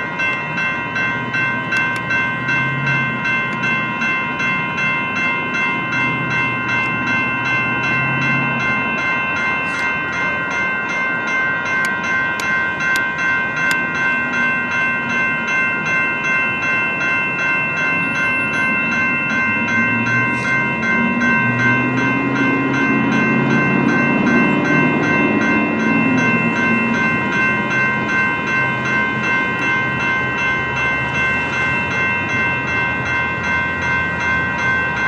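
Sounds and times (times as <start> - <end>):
electronic crossing bells ringing: 0.0 - 35.0.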